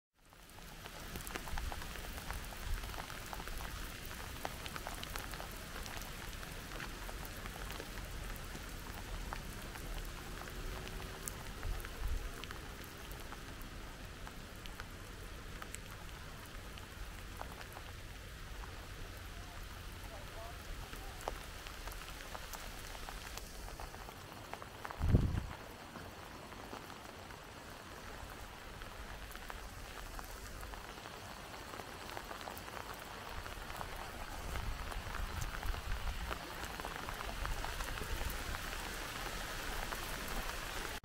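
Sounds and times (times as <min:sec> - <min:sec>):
rain falling: 0:00.2 - 0:41.0
raindrops ticking: 0:00.2 - 0:41.0.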